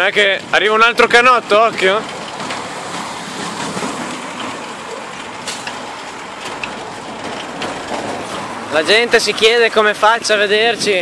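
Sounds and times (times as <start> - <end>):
street traffic hiss: 0.0 - 11.0.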